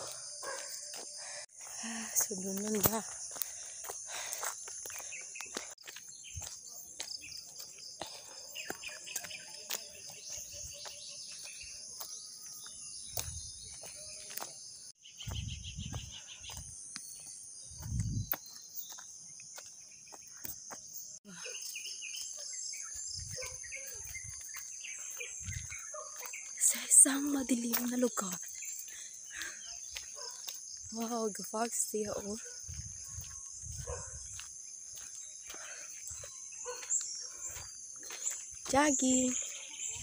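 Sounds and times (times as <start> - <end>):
forest insects droning: 0.0 - 40.0
bird chirps: 4.6 - 31.0, 32.4 - 40.0.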